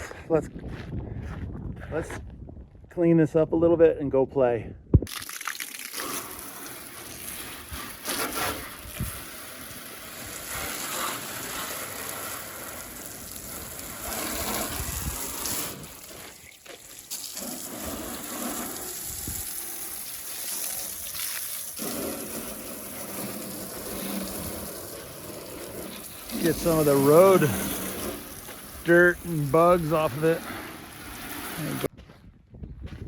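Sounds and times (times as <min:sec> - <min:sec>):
hose spraying water on truck: 0:05.1 - 0:31.9.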